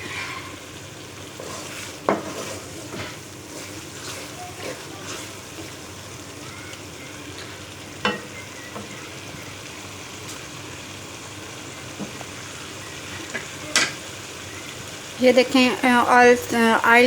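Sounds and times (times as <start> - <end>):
stirring in a pot: 0.0 - 15.2
dal sizzling in oil: 0.0 - 17.0.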